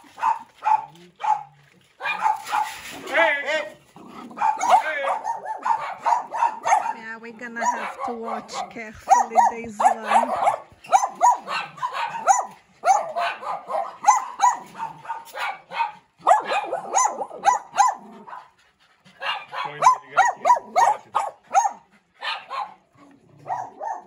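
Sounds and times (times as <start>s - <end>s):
small dogs yapping: 0.0s - 24.0s.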